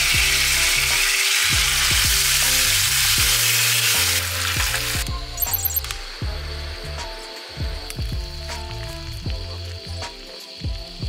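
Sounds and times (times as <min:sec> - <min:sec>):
background music with beat: 0:00.0 - 0:11.0
chicken sizzling in hot oil: 0:00.0 - 0:11.0.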